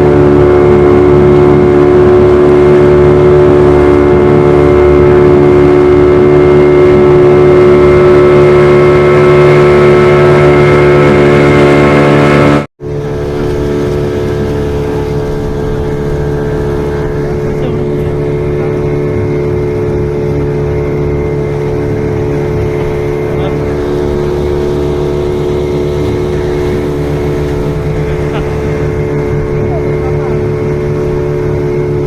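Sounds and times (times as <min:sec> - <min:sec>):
motorboat engine running: 0:00.0 - 0:32.0.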